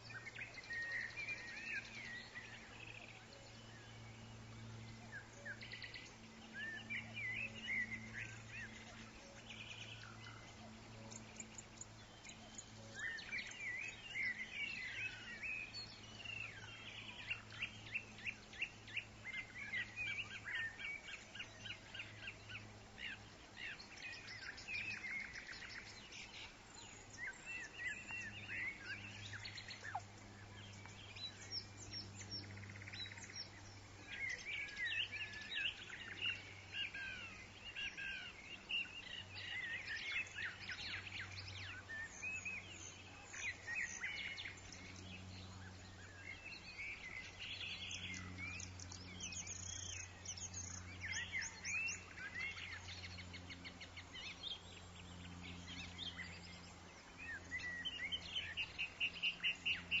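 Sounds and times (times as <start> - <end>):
songbirds chirping and singing: 0.0 - 60.0
steady low hum: 0.0 - 60.0.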